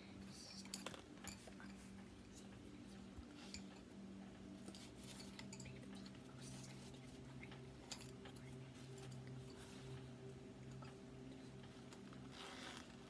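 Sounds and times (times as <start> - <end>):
faint clicks and rustles: 0.0 - 13.0
low steady hum: 0.0 - 13.0.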